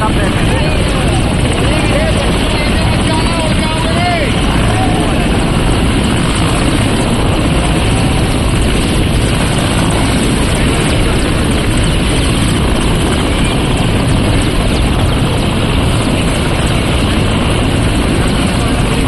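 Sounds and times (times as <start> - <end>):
helicopter turbine and rotor noise: 0.0 - 19.0.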